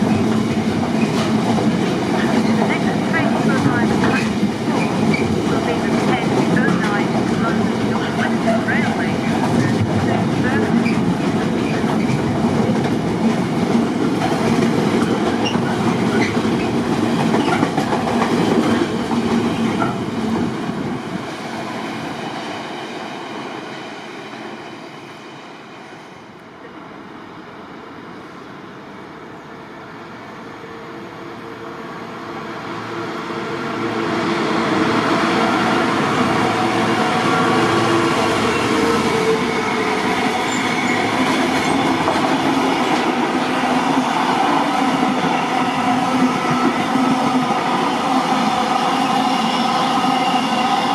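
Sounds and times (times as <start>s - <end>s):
train passing: 0.0s - 50.9s
train whine: 0.0s - 50.9s.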